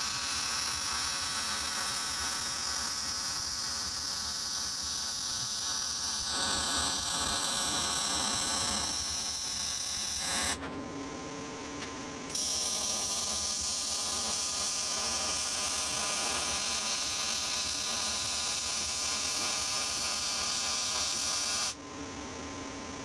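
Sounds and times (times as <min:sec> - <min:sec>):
welding arc crackling buzz: 0:00.0 - 0:10.7, 0:12.3 - 0:21.8.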